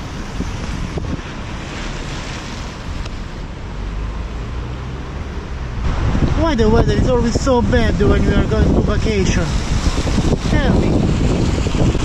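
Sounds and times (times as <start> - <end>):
wind buffeting microphone: 0.0 - 3.7, 5.4 - 12.0
sea surf: 0.0 - 12.0.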